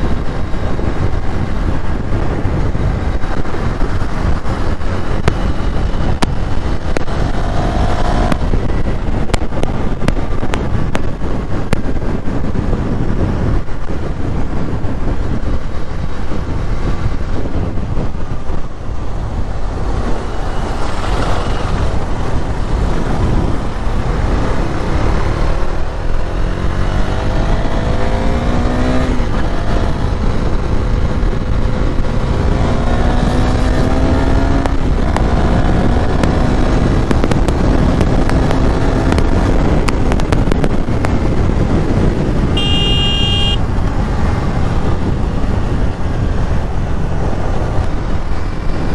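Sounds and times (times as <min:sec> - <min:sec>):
motorcycle engine: 0:00.0 - 0:48.9
wind noise on microphone: 0:00.0 - 0:48.9.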